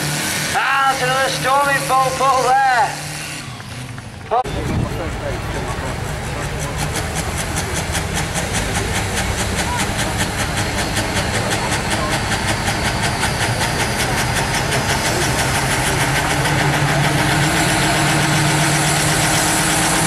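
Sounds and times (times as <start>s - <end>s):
diesel engine clatter: 0.0s - 20.0s.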